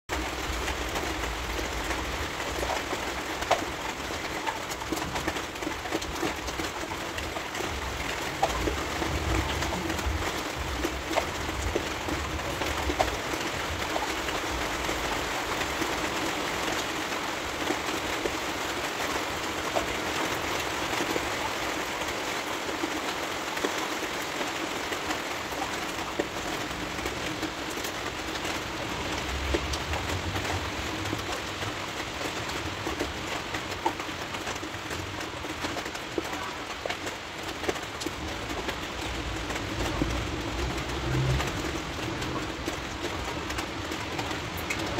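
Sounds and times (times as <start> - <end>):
rain on window pane: 0.1 - 44.9.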